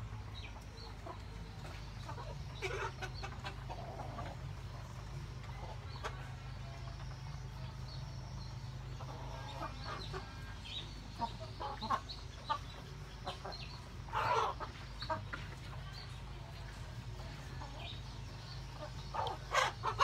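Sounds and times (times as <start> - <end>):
chickens clucking: 0.0 - 20.0
steady low hum: 0.0 - 20.0.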